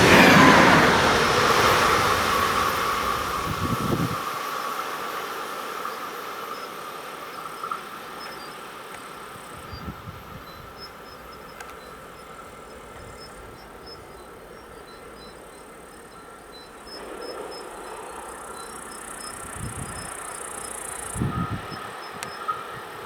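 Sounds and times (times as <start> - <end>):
crickets chirping: 0.0 - 23.0
rail hiss: 0.0 - 23.0
train rumbling past: 0.0 - 23.0.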